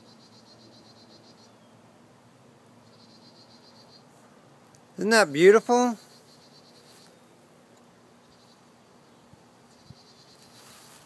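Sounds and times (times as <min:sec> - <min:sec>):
faint high-pitched buzzing: 0:00.0 - 0:11.0
outdoor background hiss: 0:00.0 - 0:11.0.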